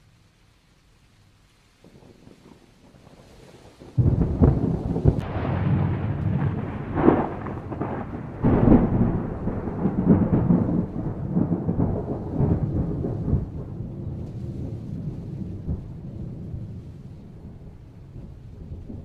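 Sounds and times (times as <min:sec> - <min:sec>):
rolling thunder rumbling: 0:01.8 - 0:19.0
thunder crack: 0:01.8 - 0:19.0.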